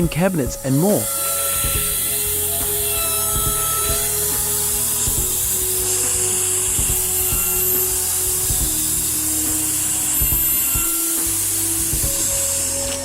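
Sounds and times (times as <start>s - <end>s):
background music with held notes: 0.0s - 13.0s
low beat: 0.0s - 13.0s.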